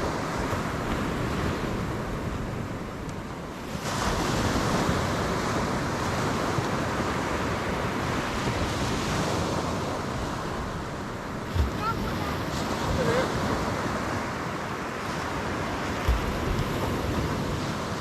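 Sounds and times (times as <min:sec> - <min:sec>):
surf breaking on beach: 0:00.0 - 0:18.0
wind on microphone: 0:00.0 - 0:18.0.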